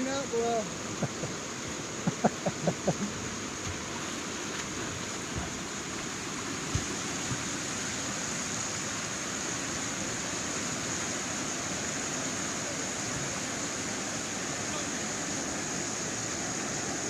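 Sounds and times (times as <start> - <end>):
whitewater rushing over rapid: 0.0 - 17.0.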